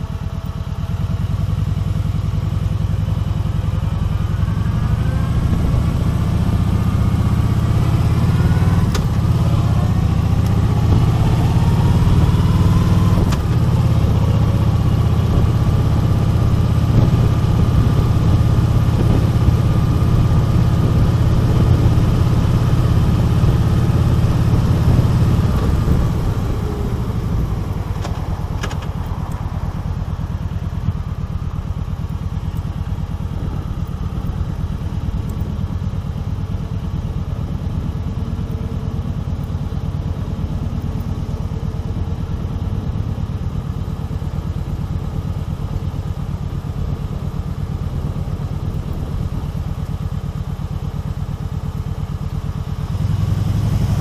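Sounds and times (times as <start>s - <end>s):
motorcycle engine idling: 0.0s - 53.4s.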